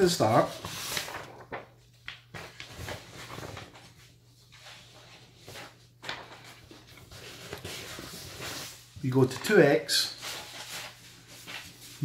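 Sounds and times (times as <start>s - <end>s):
paper rustling on wooden table: 0.1s - 12.0s.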